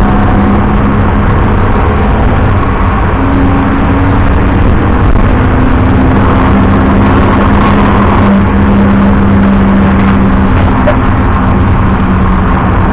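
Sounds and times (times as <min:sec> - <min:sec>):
car engine running steadily: 0:00.0 - 0:12.9
road and tyre noise: 0:00.0 - 0:12.9.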